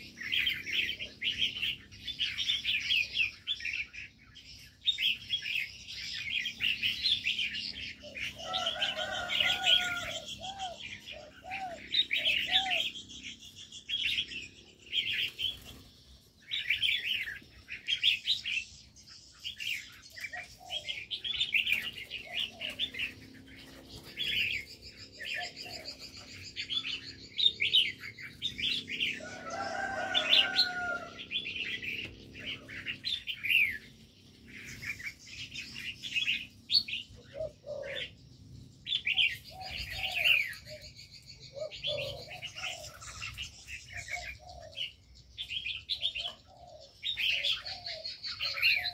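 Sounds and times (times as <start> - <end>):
birds chirping and twittering: 0.0 - 48.9
lower-pitched repeated bird call: 0.0 - 48.9.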